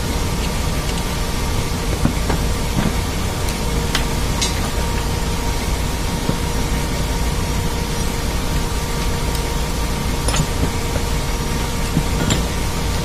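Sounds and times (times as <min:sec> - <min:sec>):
engine-room machinery drone: 0:00.0 - 0:13.0.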